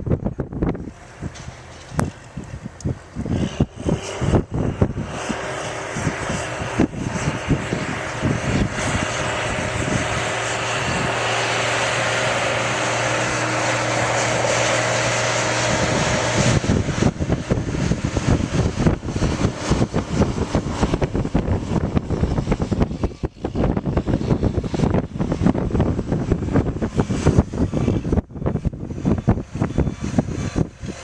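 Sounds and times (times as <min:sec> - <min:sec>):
motor engine running: 0:00.0 - 0:31.0.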